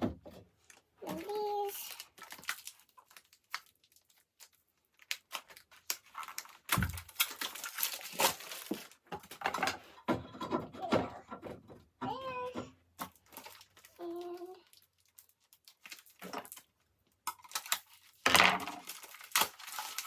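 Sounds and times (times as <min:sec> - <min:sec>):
packaging rustling and crinkling: 0:00.5 - 0:10.0, 0:13.0 - 0:20.0.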